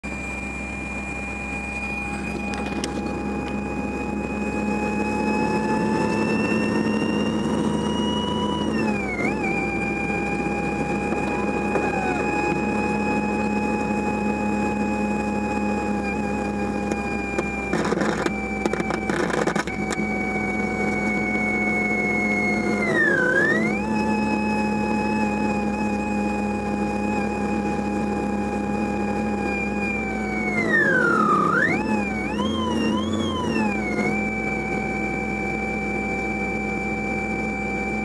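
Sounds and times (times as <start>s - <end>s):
electronic whine from car radio: 0.0s - 38.0s.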